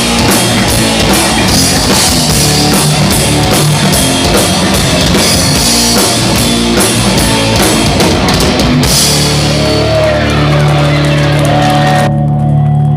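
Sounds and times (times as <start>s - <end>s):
drum kit: 0.0s - 12.6s
electric guitar: 0.0s - 12.9s
rock band playing: 0.0s - 12.9s.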